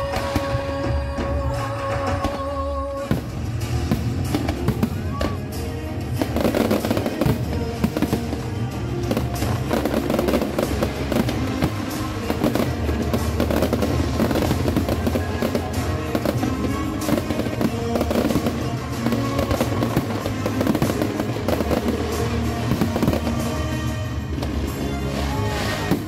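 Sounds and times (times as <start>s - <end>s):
fireworks bursting and crackling: 0.0s - 26.0s
loud music over sound system: 0.0s - 26.0s.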